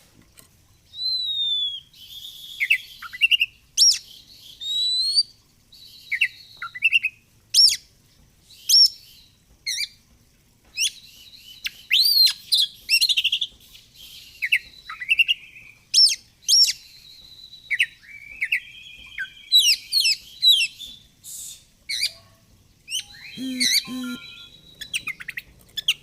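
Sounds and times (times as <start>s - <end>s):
bird singing whistled song: 0.9s - 7.8s, 10.8s - 22.2s, 22.9s - 26.0s.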